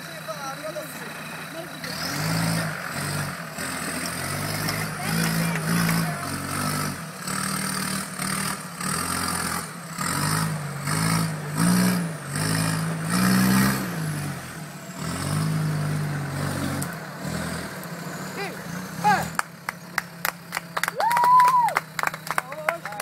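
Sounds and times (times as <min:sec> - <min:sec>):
engine revving in surges: 0:00.0 - 0:22.9.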